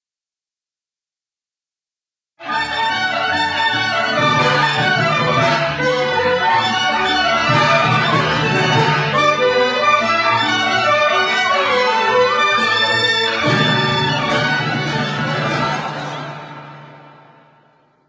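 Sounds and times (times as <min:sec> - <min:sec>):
orchestral string music: 0:02.4 - 0:17.7.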